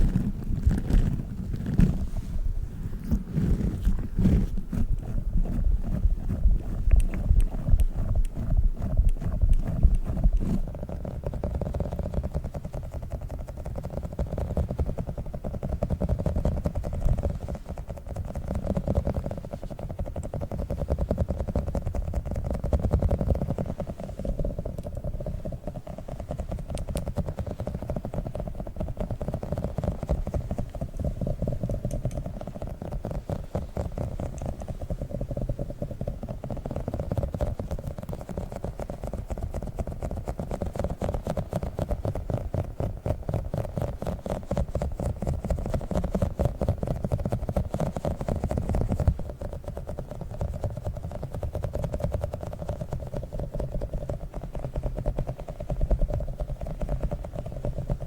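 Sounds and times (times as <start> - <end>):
close-up rumble: 0.0 - 58.0.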